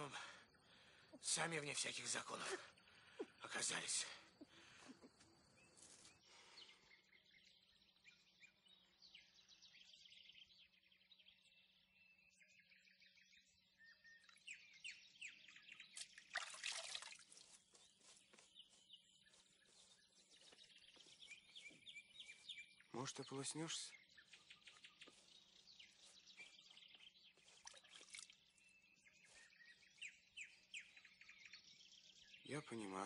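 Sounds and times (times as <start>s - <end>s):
birds chirping: 0.0s - 16.4s, 17.4s - 33.0s.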